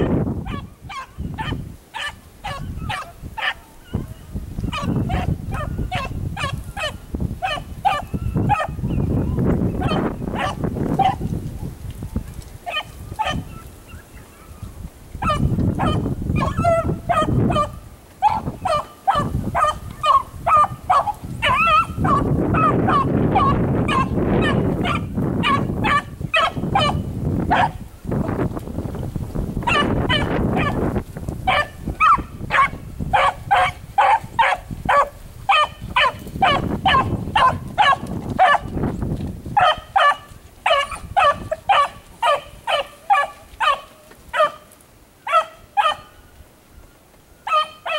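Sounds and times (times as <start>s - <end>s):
beagle baying: 0.5s - 11.2s, 12.6s - 14.0s, 15.2s - 27.8s, 29.6s - 30.8s, 31.5s - 38.7s, 39.6s - 46.2s, 47.4s - 47.9s.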